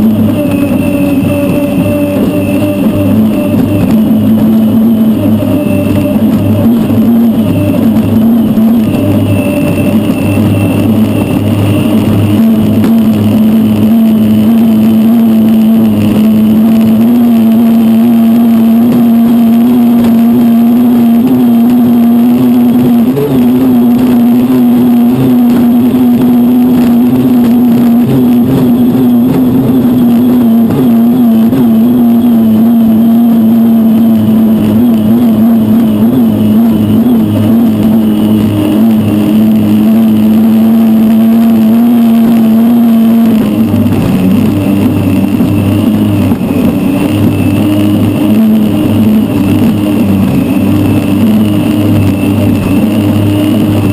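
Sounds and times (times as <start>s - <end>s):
turbine boat engine droning: 0.0s - 53.9s
wind rushing: 0.0s - 53.9s.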